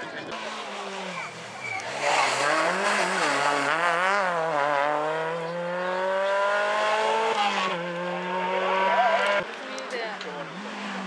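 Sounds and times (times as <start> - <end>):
rally car engine accelerating: 0.3 - 9.6, 10.4 - 11.0.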